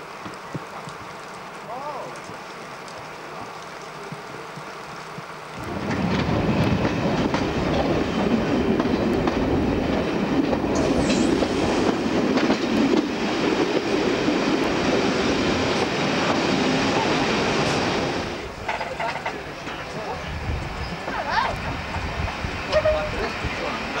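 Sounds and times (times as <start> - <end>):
moving train: 0.0 - 24.0
diesel locomotive engine working hard: 3.1 - 24.0.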